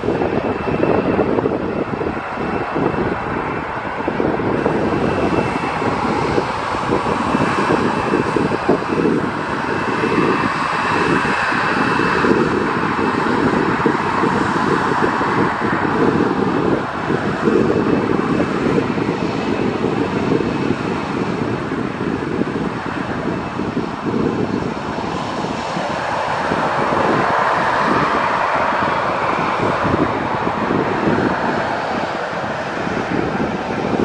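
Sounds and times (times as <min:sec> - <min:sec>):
jet engine rumble: 0:00.0 - 0:34.0.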